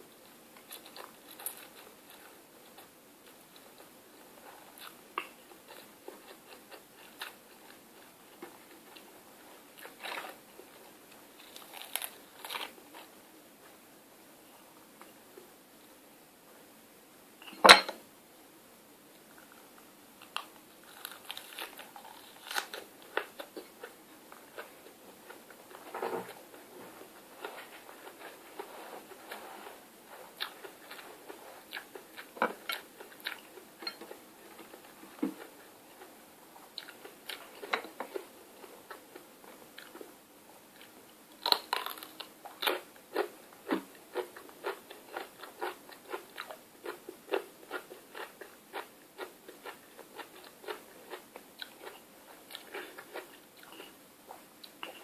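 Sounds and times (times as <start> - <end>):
person chewing crunchy food: 0.6 - 13.1, 20.2 - 36.1, 36.7 - 40.1, 40.7 - 55.0.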